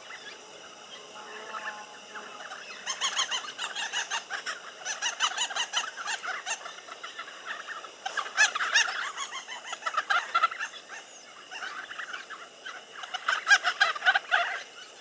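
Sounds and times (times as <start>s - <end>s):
birds chattering: 0.0s - 15.0s.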